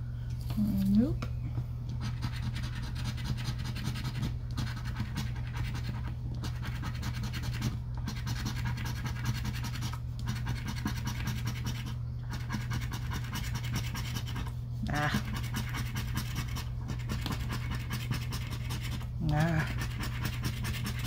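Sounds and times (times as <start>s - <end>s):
steady low hum: 0.0s - 21.0s
scraper scratching a lottery ticket: 1.9s - 21.0s.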